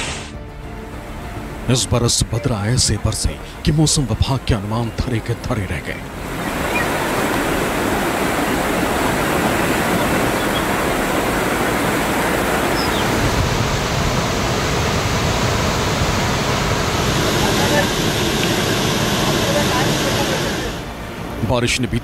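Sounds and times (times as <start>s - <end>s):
floodwater rushing: 0.0s - 21.5s.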